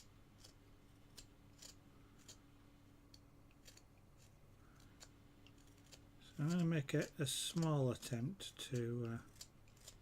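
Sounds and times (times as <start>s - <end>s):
knife scraping wood: 0.0s - 2.5s, 3.5s - 10.0s
low steady hum: 0.0s - 10.0s.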